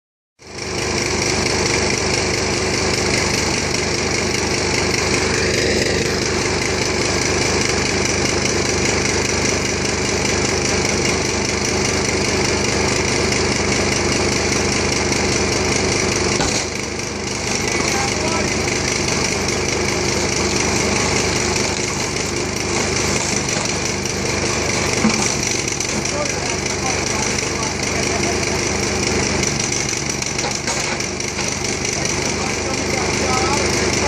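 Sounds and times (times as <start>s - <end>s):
small engine running: 0.4s - 34.0s.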